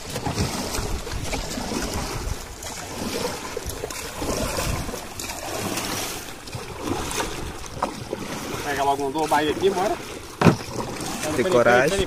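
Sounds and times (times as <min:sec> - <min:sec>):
water washing around canoe: 0:00.0 - 0:12.0
wind buffeting microphone: 0:00.0 - 0:12.0.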